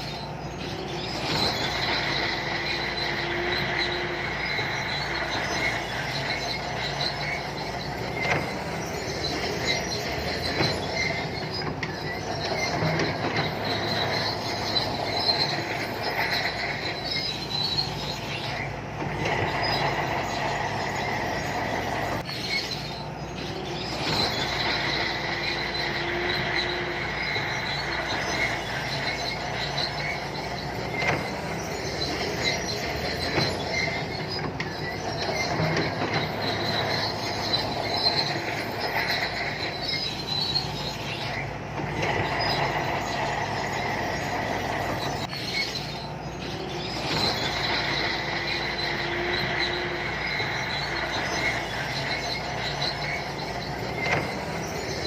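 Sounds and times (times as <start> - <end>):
bulldozer diesel engine running: 0.0 - 55.0
steel tracks squealing and clanking: 0.0 - 55.0.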